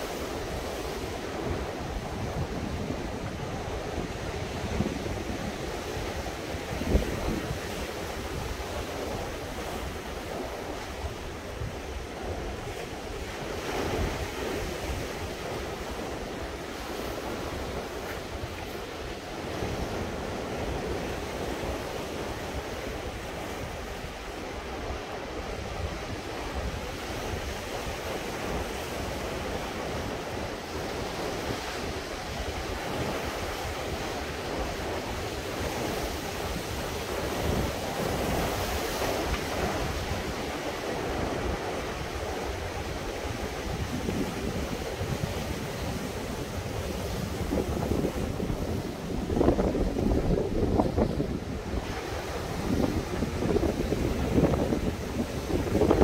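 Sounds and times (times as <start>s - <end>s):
sea waves breaking: 0.0s - 56.0s
wind buffeting microphone: 0.0s - 56.0s.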